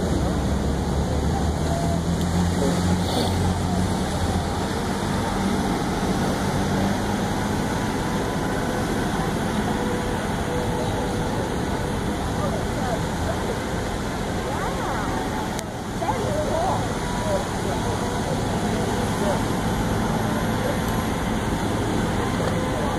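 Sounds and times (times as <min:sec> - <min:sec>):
boat engines humming: 0:00.0 - 0:22.9
water cannons spraying: 0:00.0 - 0:22.9.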